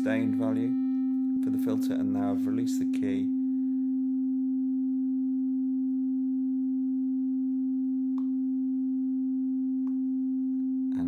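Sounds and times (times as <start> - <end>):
sustained synthesizer tone: 0.0 - 11.0.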